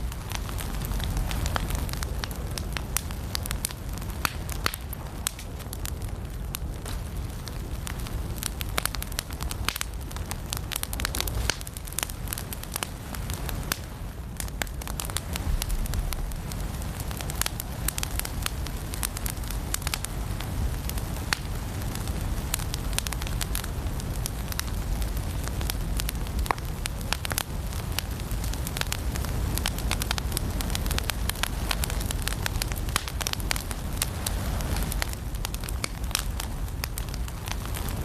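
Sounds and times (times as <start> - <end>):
firewood crackling and popping: 0.0 - 38.0
low fire rumble: 0.0 - 38.0.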